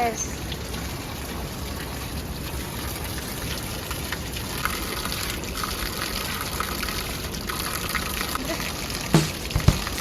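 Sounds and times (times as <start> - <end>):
rushing stream water: 0.1 - 10.0.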